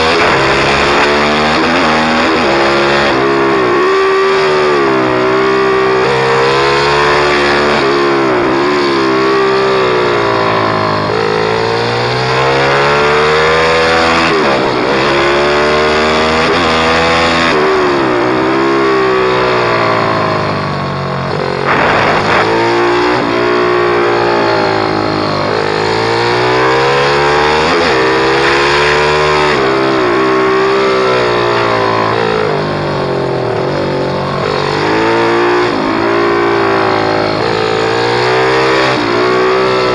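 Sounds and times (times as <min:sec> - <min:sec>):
pit bike engine at high revs: 0:00.0 - 0:39.9.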